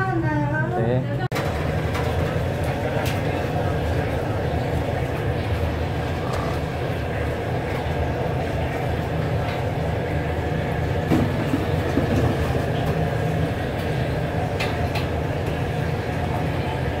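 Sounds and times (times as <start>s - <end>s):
kitchen equipment rumble: 1.3s - 17.0s.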